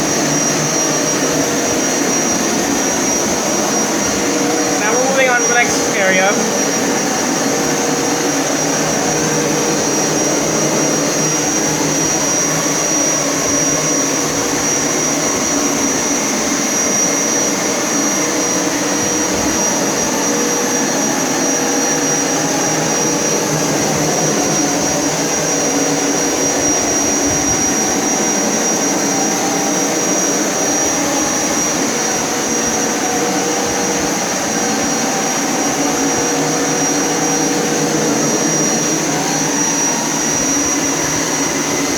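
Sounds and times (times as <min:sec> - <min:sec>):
carpet cleaner motor roar and whine: 0:06.9 - 0:41.9.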